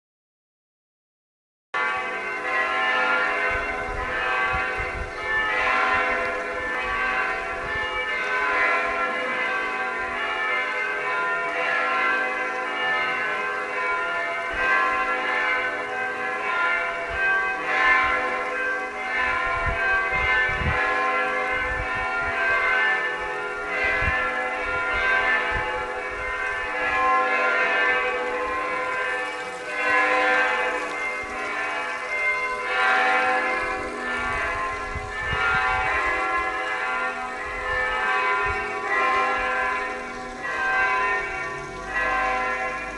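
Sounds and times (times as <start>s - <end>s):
church bells ringing: 1.8s - 42.9s.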